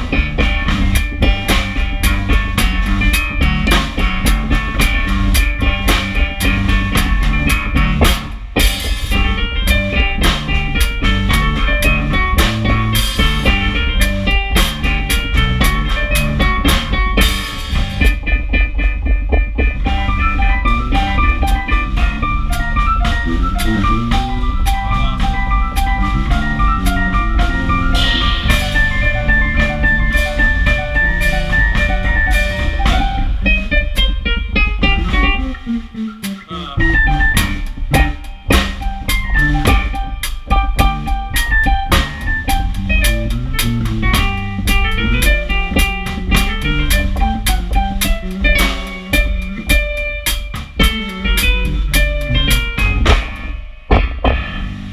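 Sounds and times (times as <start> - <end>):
bass: 0.0 - 54.9
drum kit: 0.0 - 54.9
guitar: 0.0 - 54.9
keyboard: 0.0 - 54.9
live blues band: 0.0 - 54.9.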